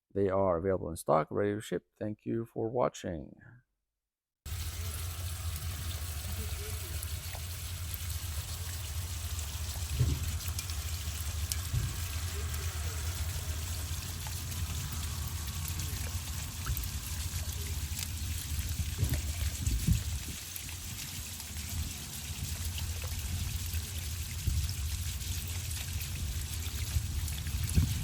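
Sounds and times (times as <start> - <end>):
water splashing into bowl: 4.5 - 28.0.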